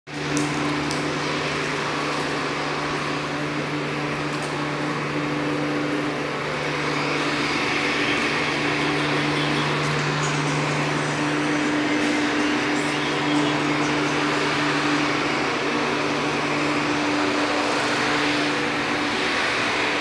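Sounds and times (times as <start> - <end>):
mechanical drone with hiss: 0.7 - 20.0.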